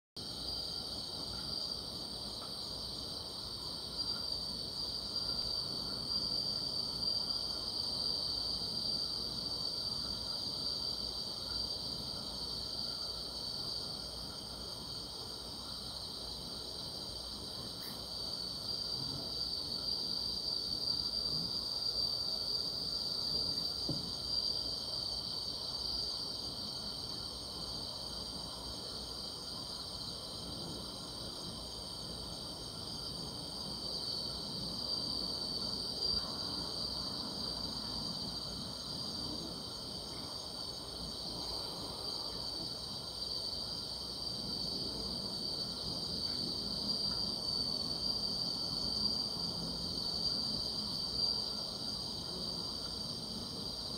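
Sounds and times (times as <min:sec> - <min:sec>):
insects trilling: 0:00.2 - 0:53.9.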